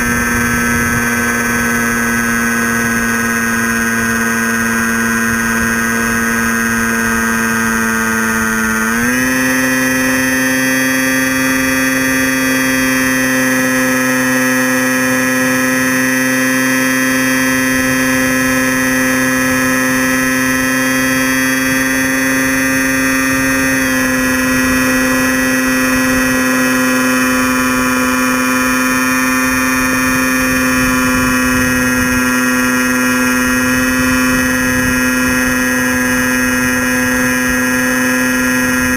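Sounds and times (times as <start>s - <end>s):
model plane motor drone: 0.0s - 38.9s.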